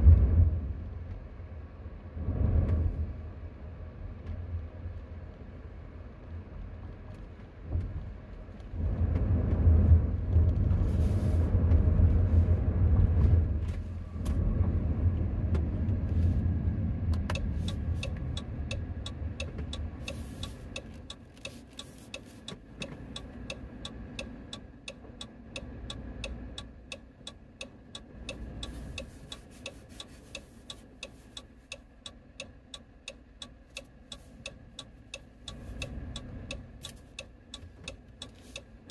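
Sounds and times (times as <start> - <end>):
engine and road noise in cabin: 0.0 - 38.9
turn signal ticking: 6.7 - 38.9.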